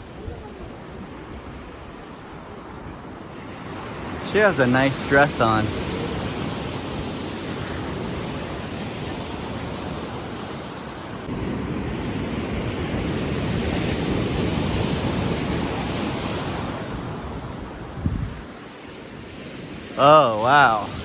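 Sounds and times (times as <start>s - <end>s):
ocean surf washing on shore: 0.0s - 21.0s.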